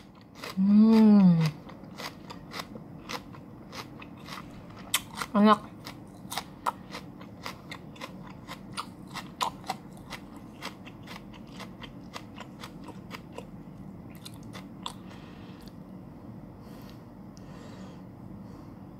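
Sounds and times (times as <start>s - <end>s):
celery chewing crunches: 0.0s - 15.8s.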